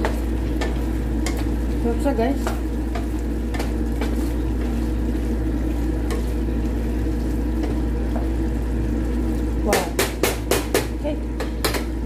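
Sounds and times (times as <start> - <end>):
sauce bubbling and sizzling: 0.0 - 12.0
steady low hum: 0.0 - 12.0.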